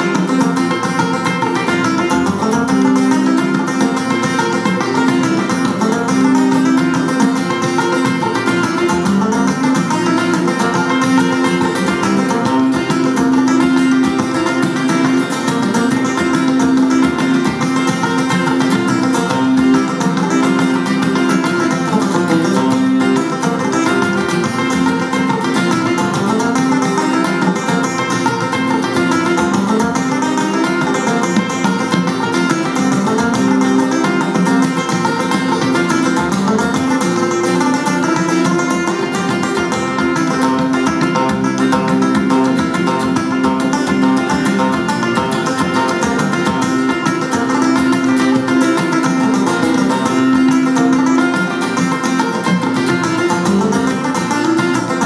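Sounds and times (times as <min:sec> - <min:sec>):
banjo picked melody: 0:00.0 - 0:55.0
strummed acoustic guitar: 0:00.0 - 0:55.0.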